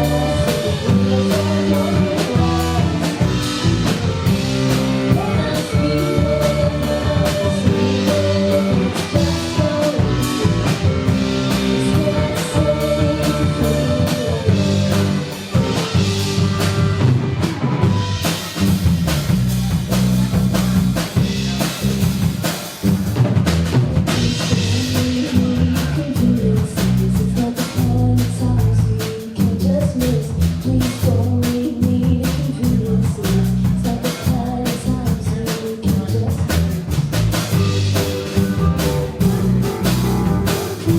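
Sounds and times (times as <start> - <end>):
drum kit: 0.0 - 40.9
live band playing: 0.0 - 40.9.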